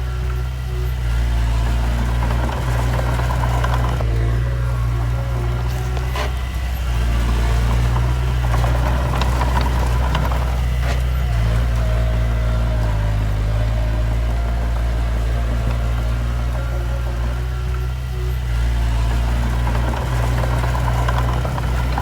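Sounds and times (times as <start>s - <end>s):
heavy machinery diesel engine: 0.0s - 22.0s.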